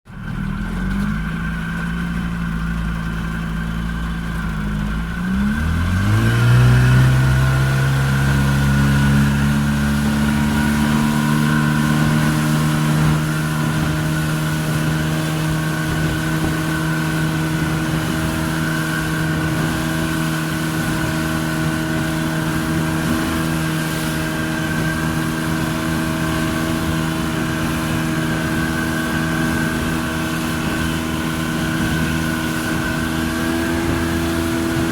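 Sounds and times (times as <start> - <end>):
outboard motor revving: 0.1 - 34.9.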